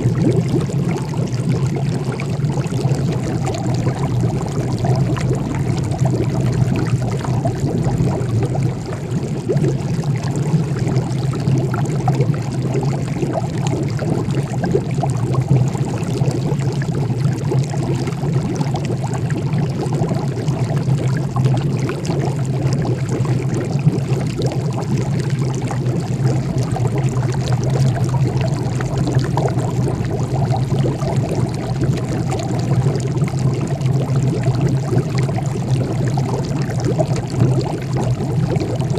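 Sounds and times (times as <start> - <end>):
liquid bubbling in a glass jar: 0.0 - 38.9
low even hum: 0.0 - 38.9.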